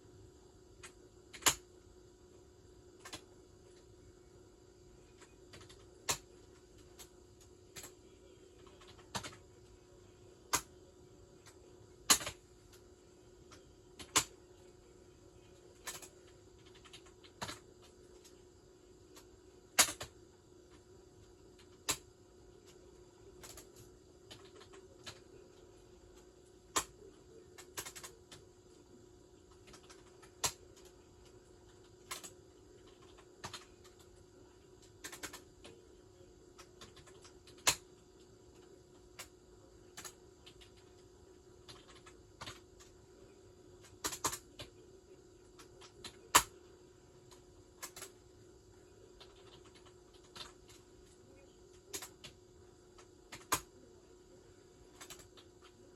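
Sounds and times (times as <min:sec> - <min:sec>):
low hum and hiss: 0:00.0 - 0:55.9.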